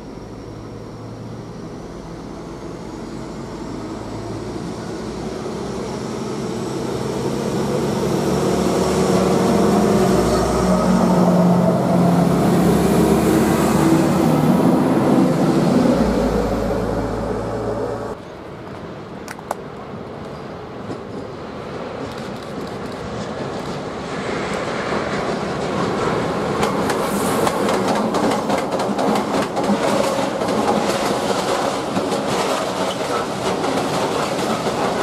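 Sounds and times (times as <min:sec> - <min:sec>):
train passing: 0:00.0 - 0:35.0.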